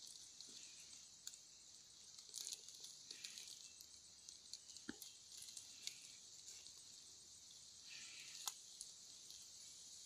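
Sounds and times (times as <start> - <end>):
bags rustling and crinkling: 0.0 - 10.0
steady high hiss: 0.0 - 10.0.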